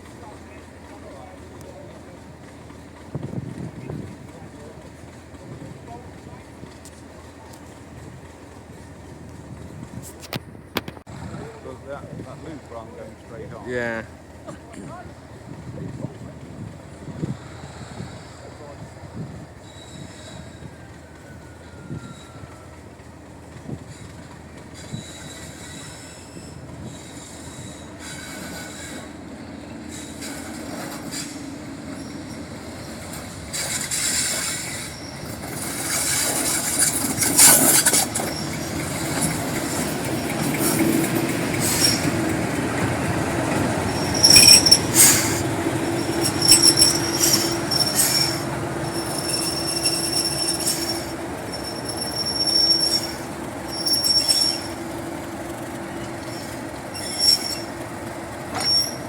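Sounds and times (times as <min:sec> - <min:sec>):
train running noise: 0:00.0 - 0:59.0
train wheels squealing on rails: 0:11.1 - 0:59.0.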